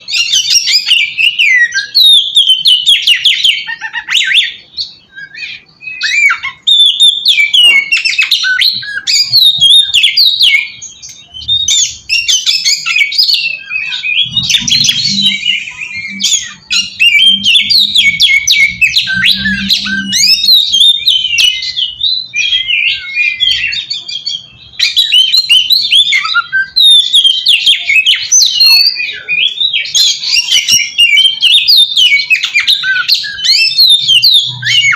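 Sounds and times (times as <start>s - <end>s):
songbird singing whistled phrases: 0.0s - 34.9s.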